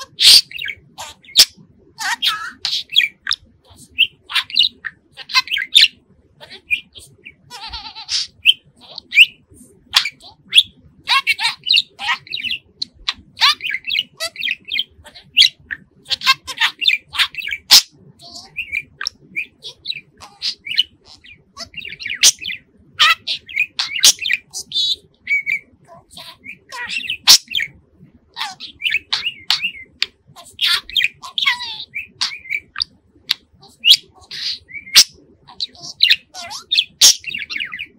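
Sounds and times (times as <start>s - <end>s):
budgerigar chirping and warbling: 0.0s - 37.9s.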